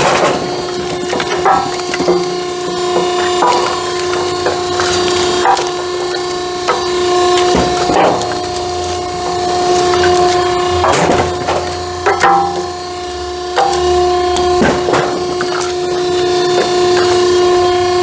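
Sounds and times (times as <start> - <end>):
wooden knocks of firewood: 0.0 - 12.9, 13.5 - 17.6
machine hum with pitched tone: 0.0 - 18.0
wood splintering crackle: 0.0 - 18.0.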